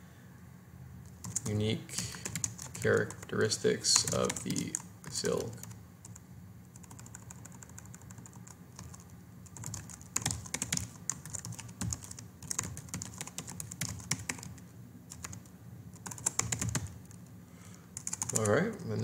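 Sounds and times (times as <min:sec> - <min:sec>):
typing on computer keyboard: 0:01.2 - 0:03.3, 0:04.0 - 0:17.0, 0:18.0 - 0:19.0.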